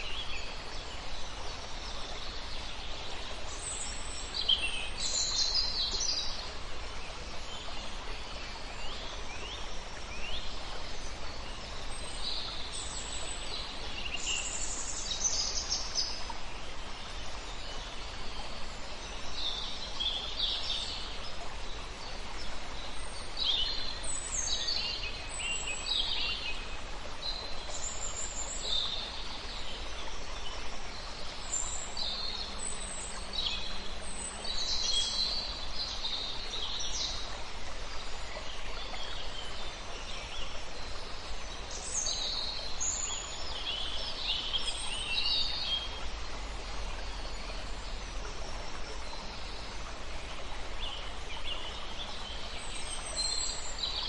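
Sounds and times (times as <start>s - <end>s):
flowing river water: 0.0s - 54.0s
songbirds singing and chirping: 0.0s - 54.0s.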